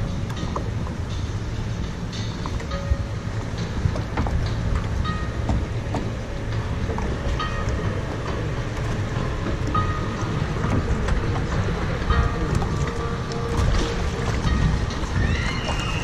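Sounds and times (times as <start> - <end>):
ride machinery low rumble: 0.0 - 16.0.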